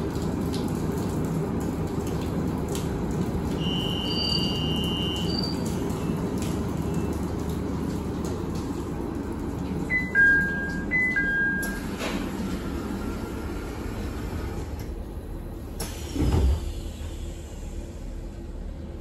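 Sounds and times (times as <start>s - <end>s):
train car low hum: 0.0s - 19.0s.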